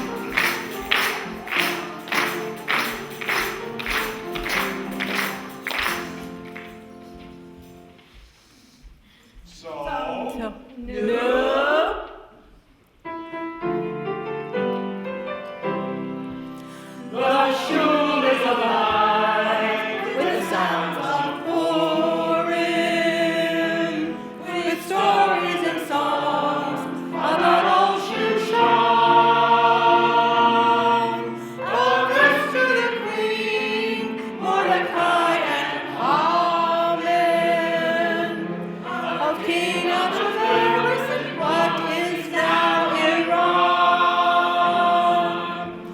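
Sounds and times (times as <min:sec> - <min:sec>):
group of voices singing: 0:00.0 - 0:06.3, 0:09.5 - 0:12.4, 0:17.0 - 0:45.9.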